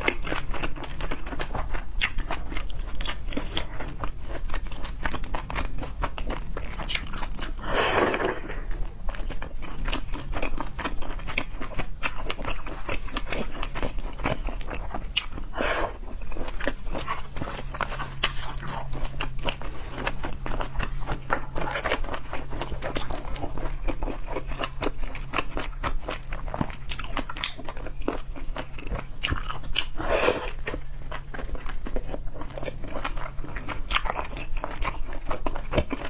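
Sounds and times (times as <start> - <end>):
chewing and crunching: 0.0 - 36.0.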